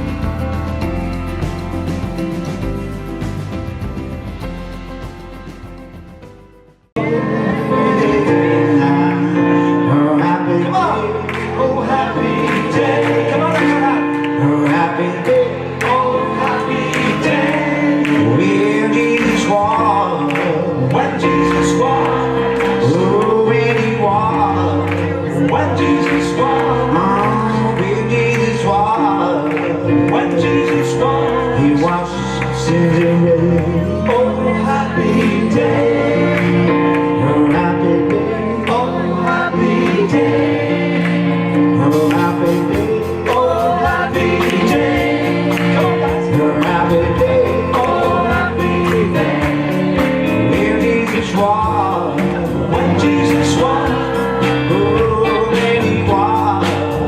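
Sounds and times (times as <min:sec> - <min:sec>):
instrumental accompaniment: 0:00.0 - 0:57.0
choir singing gospel: 0:07.0 - 0:57.0.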